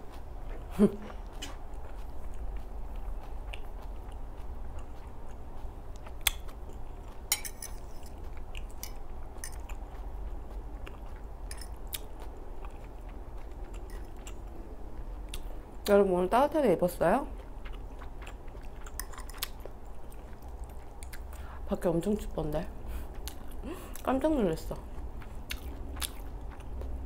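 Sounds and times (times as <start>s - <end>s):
person chewing with wet smacking: 0.0s - 27.0s
steady low hum: 0.0s - 27.0s.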